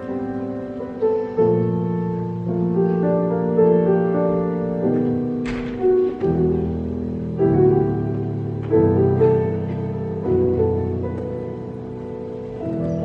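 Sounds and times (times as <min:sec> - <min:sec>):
grand piano chords: 0:00.0 - 0:13.0.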